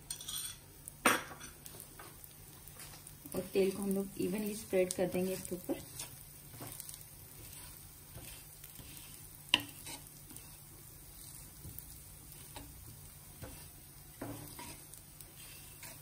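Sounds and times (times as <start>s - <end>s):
faint sizzle on hot griddle: 0.0s - 16.0s
spatula scraping: 2.8s - 16.0s.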